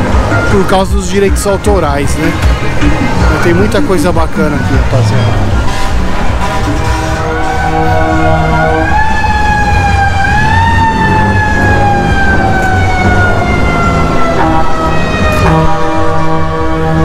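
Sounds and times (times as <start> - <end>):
background music: 0.0 - 17.0
siren wailing: 3.3 - 17.0.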